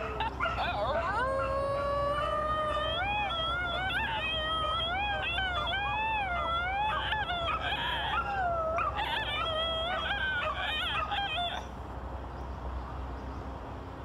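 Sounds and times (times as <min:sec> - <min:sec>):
eerie wailing call: 0:00.0 - 0:11.7.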